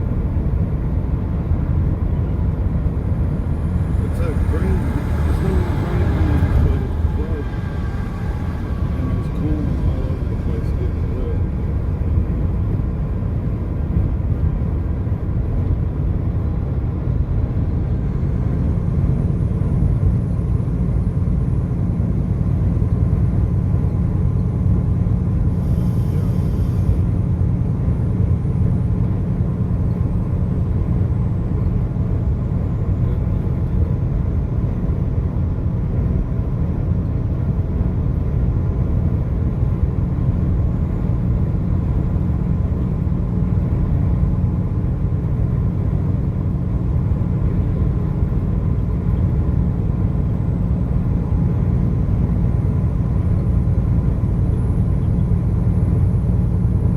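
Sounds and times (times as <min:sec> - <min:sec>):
car driving rumble: 0:00.0 - 0:56.9.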